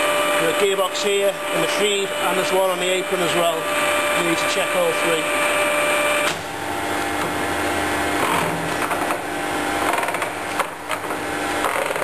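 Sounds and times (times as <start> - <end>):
lathe mechanical hum: 0.0 - 12.0.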